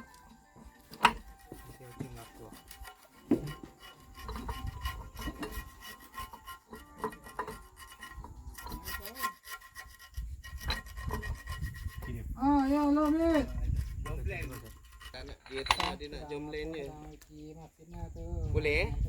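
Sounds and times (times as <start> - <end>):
hand tools scraping on metal: 0.0 - 16.9.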